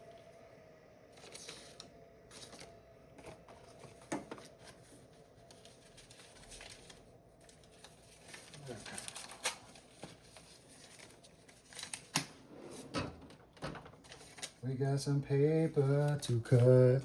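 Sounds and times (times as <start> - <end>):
paper rustling and handling: 1.1 - 12.8, 13.9 - 14.7, 15.5 - 17.0.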